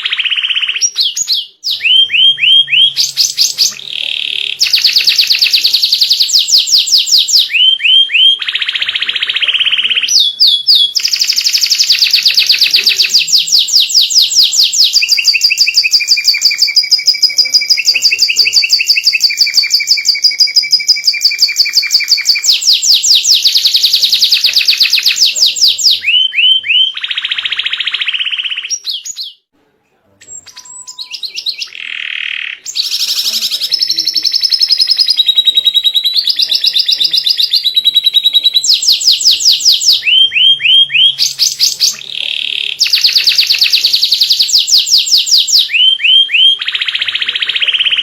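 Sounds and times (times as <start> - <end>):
canary singing trills: 0.0 - 29.5, 30.2 - 48.0.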